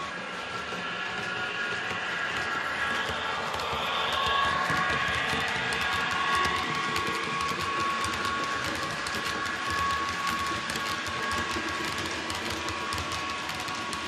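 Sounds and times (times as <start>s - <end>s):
model wagon wheels clicking: 1.9s - 14.0s.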